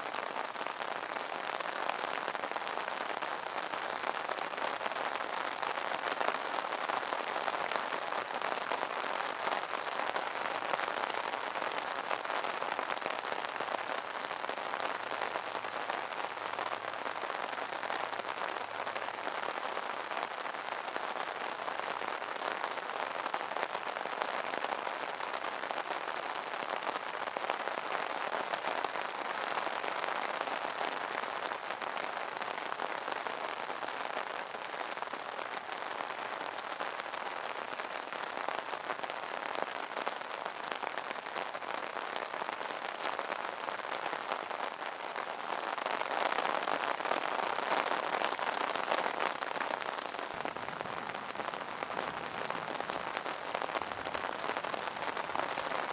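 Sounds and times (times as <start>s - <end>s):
rain pattering on an umbrella: 0.0s - 55.9s.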